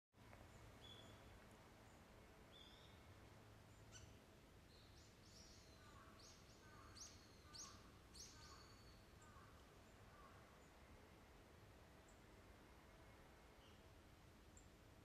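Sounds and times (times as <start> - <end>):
faint low background noise: 0.2 - 15.0.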